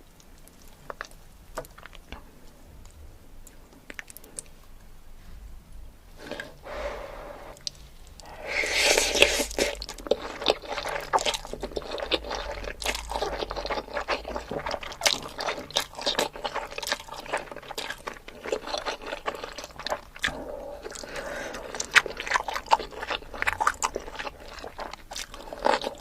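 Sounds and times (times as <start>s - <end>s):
person chewing food: 0.0s - 4.8s, 7.5s - 26.0s.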